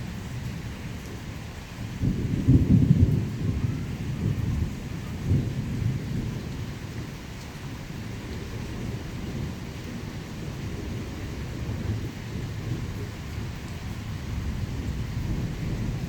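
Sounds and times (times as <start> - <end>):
thunder rumbling: 0.0 - 7.2, 8.1 - 16.0
heavy rain: 0.0 - 16.0.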